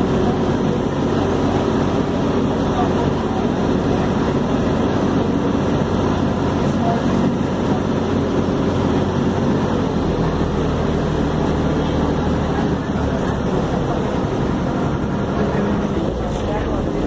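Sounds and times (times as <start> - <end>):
ferry engine humming: 0.0 - 17.0.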